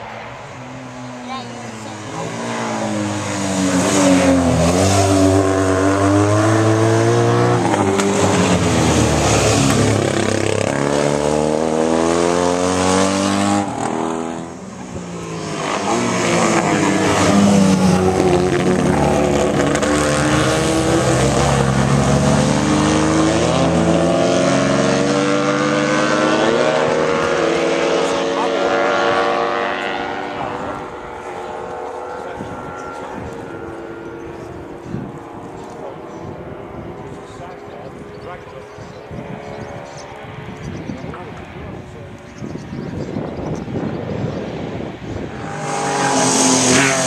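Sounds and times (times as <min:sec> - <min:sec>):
racing sidecar engines passing: 0:00.0 - 0:43.2, 0:44.0 - 0:47.0.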